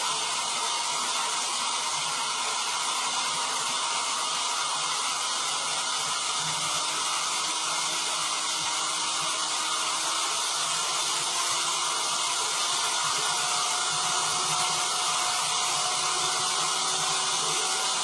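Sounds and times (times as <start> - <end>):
electric drill whirring: 0.0 - 18.0.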